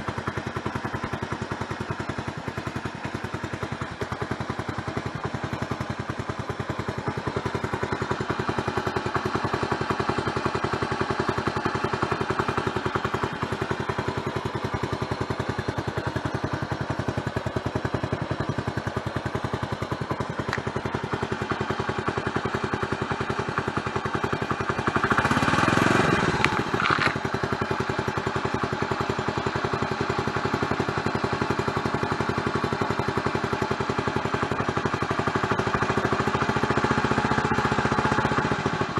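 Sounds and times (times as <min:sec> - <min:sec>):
motorcycle engine exhaust: 0:00.0 - 0:38.9.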